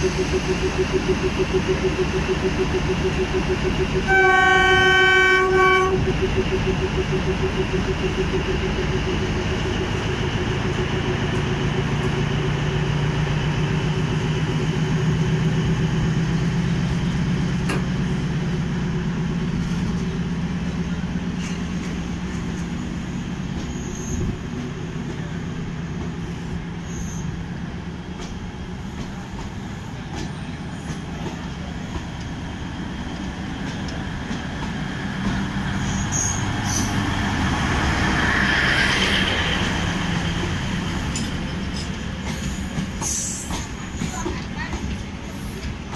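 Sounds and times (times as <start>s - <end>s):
low diesel engine hum: 0.0s - 45.9s
wheels rumbling on rail: 0.0s - 45.9s.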